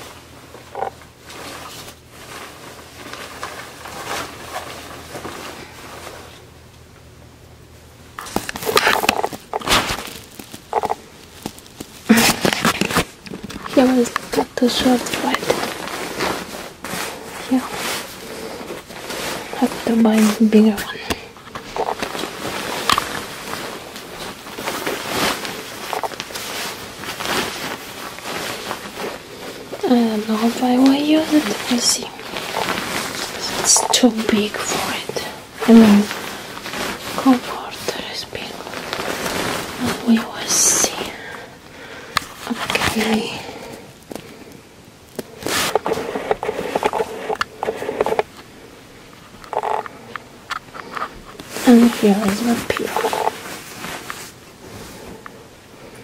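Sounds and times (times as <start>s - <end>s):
fabric rustling and swishing: 1.1s - 6.5s, 8.2s - 56.0s.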